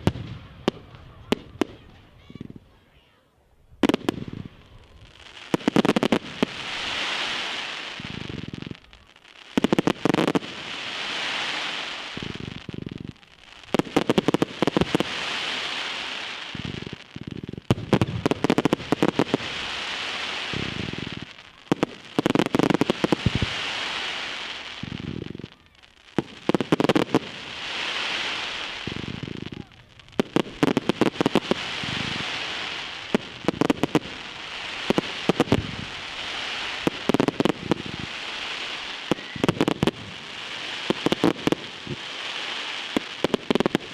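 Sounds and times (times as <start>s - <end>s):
firework bangs: 0.0s - 2.6s, 3.8s - 43.9s
fireworks hissing crackle: 0.0s - 43.9s.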